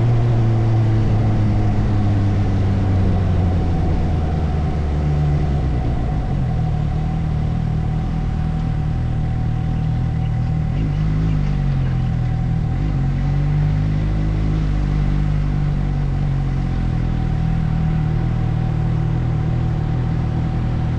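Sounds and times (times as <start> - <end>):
motorcycle engine running: 0.0 - 20.9
wind and road noise: 0.0 - 20.9.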